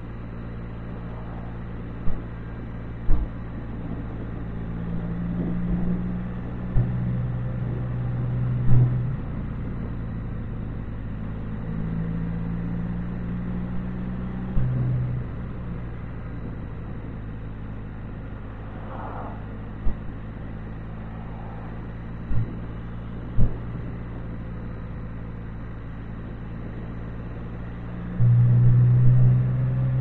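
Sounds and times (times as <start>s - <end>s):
engine humming at cruise: 0.0s - 30.0s
road and wind noise: 0.0s - 30.0s.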